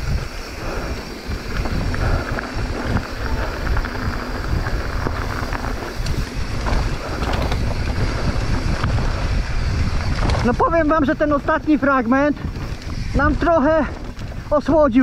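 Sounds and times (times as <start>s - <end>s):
knocks and clicks from trail: 0.0s - 11.3s, 12.2s - 14.6s
bike tyres rolling and rattling: 0.0s - 15.0s
wind buffeting microphone: 0.0s - 15.0s.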